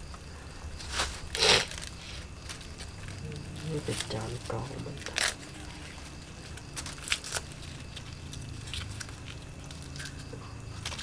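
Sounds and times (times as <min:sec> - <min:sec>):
papery nest crackling and tearing: 0:00.7 - 0:11.0.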